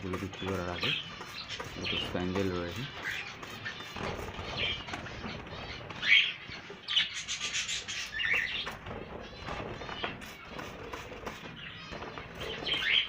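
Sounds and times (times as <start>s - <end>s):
cage birds chirping: 0.0s - 13.0s
rustling scraping noise: 0.0s - 13.0s.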